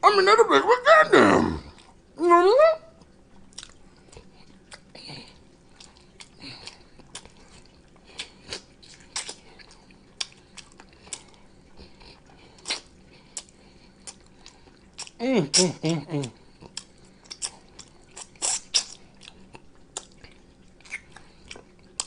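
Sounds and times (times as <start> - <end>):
person chewing: 1.4 - 2.0, 3.0 - 22.0.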